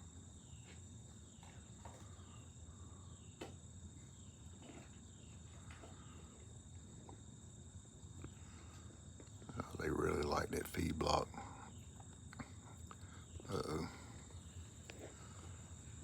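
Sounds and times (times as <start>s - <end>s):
faint insect chorus: 0.0s - 16.0s.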